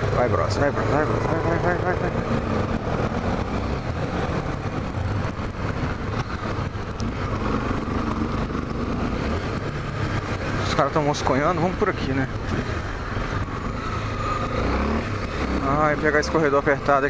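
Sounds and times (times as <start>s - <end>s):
motorcycle engine at low speed: 0.0s - 17.0s
traffic noise: 0.0s - 17.0s.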